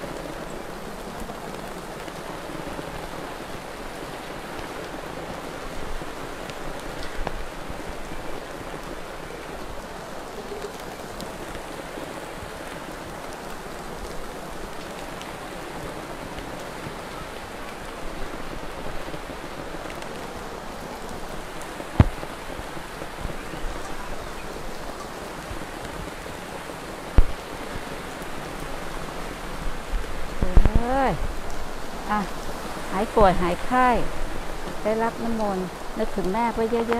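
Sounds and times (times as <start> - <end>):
patter of falling water: 0.0 - 36.9.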